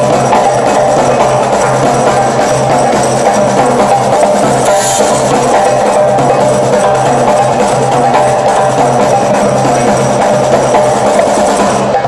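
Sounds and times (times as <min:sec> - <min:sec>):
drums and cymbals groove: 0:00.0 - 0:12.0.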